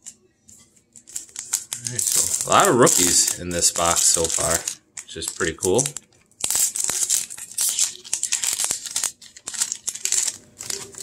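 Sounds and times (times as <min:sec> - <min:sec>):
foil wrapper crinkling and tearing: 0:01.0 - 0:11.0.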